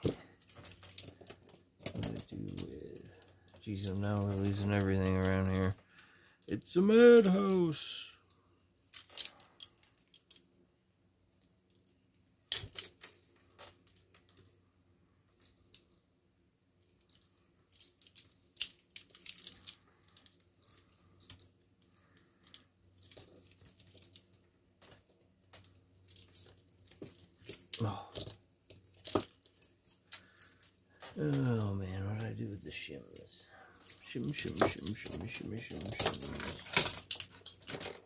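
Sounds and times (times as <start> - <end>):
handcuffs clinking: 0.0 - 10.5, 11.4 - 14.6, 16.8 - 38.0.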